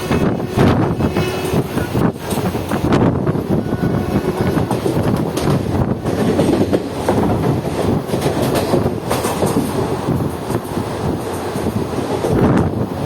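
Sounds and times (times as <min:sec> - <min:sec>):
wheels clattering over rail joints: 0:00.0 - 0:12.8
train rumbling on track: 0:00.0 - 0:13.0.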